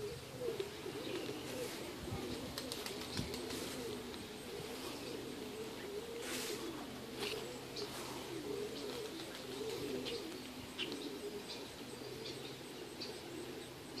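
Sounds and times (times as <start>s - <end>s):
bird cooing: 0.0s - 14.0s
birds chirping: 0.0s - 14.0s.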